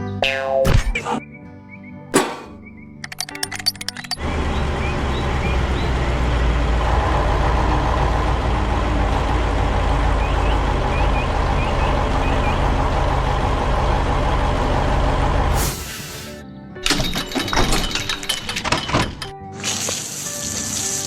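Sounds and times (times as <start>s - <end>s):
truck engine rumbling: 2.2s - 19.5s.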